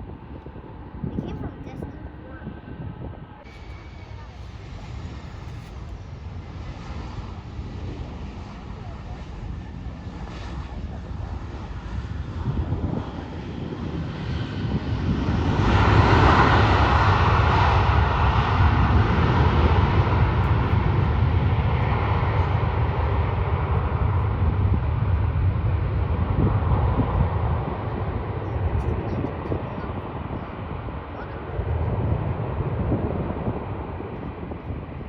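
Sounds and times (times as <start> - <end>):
airliner engines roaring past: 0.0 - 35.0.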